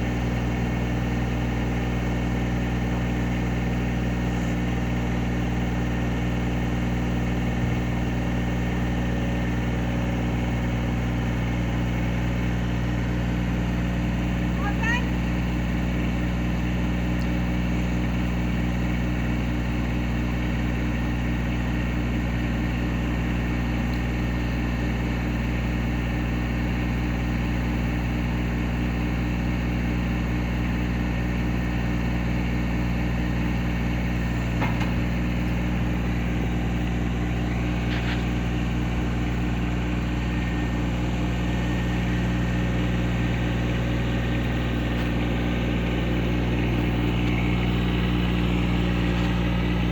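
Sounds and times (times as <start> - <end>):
tractor engine idling: 0.0 - 49.9.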